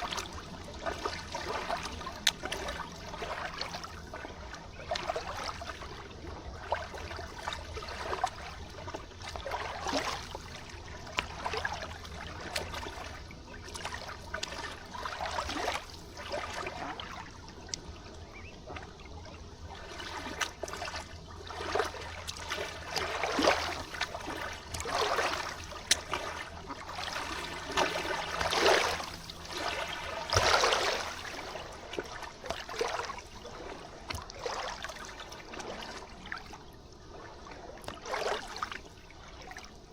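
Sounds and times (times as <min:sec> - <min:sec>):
faint low hum: 0:00.0 - 0:39.9
river water trickling and gurgling: 0:00.0 - 0:39.9.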